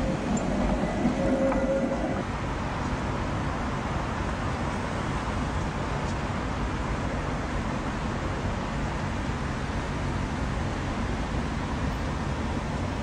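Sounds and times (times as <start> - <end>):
street noise: 0.0 - 13.0
tram wheels rumbling on rails: 0.0 - 13.0.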